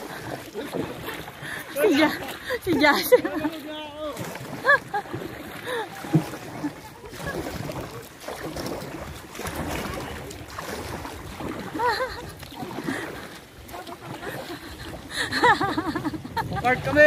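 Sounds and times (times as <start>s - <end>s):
kayak paddles splashing: 0.0s - 17.0s
water washing against hull: 0.0s - 17.0s.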